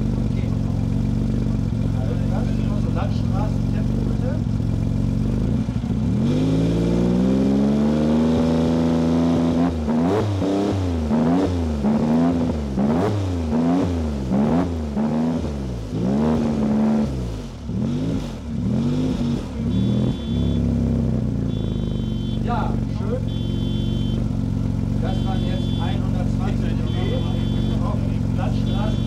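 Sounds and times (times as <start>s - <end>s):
sports car engine revving: 0.0s - 29.0s.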